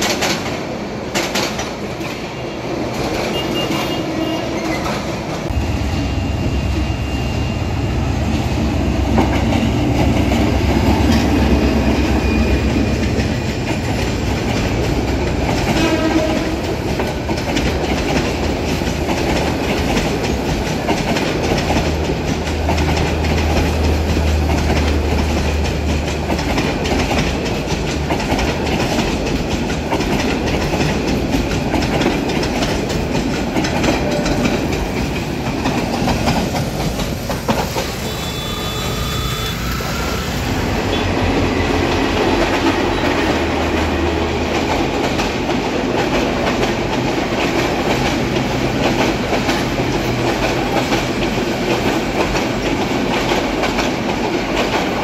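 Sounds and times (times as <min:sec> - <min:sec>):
train wheels clickety-clack: 0:00.0 - 0:05.6, 0:08.2 - 0:55.0
diesel locomotive engine rumble: 0:00.0 - 0:55.0.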